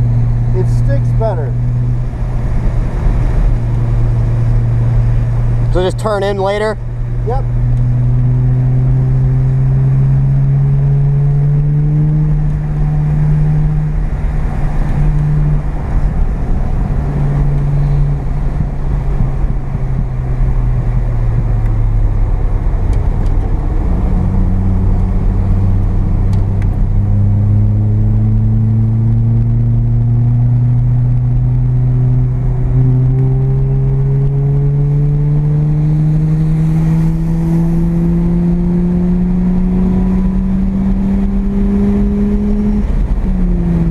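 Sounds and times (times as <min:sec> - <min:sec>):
rotary engine heard from inside car: 0:00.0 - 0:43.9.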